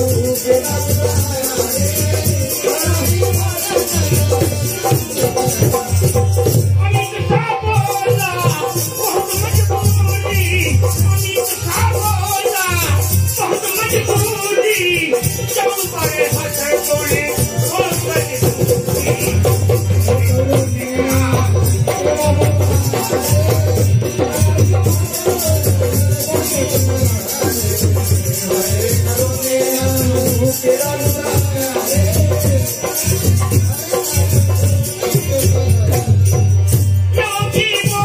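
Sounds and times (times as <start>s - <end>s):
hand drum beating: 0.0s - 38.0s
rattling percussion: 0.0s - 38.0s.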